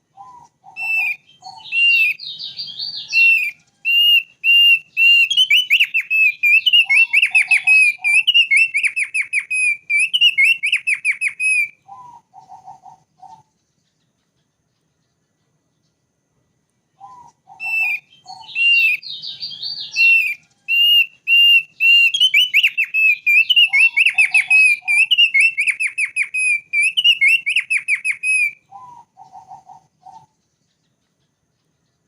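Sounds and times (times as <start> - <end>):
bird singing whistled trills: 0.0 - 16.0, 16.9 - 32.0
lower bird notes: 0.0 - 32.0.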